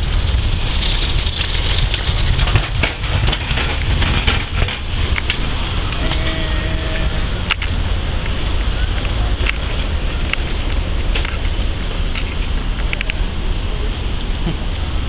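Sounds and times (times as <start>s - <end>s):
low rumble of idling vehicles: 0.0s - 15.0s.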